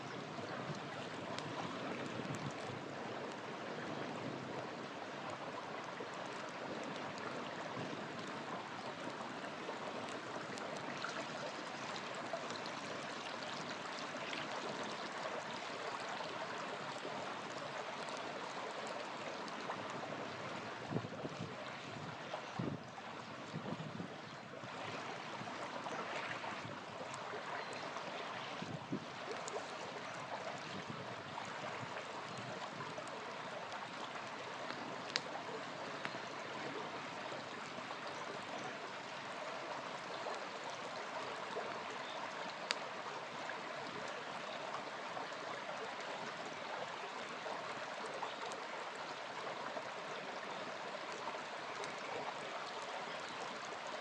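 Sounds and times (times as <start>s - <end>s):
river flowing: 0.0s - 54.0s
campfire crackling: 0.1s - 23.6s, 24.6s - 52.9s.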